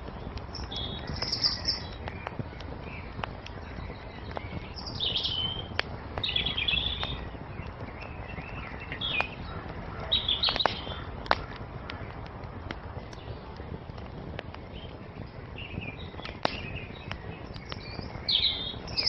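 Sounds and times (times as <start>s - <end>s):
small birds twittering: 0.0s - 19.0s
wood fire crackling and popping: 0.0s - 19.0s.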